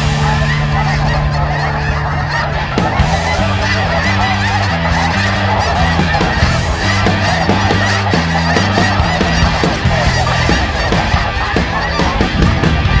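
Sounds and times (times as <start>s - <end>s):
flock of geese honking: 0.0s - 13.0s
low steady notes: 0.0s - 13.0s.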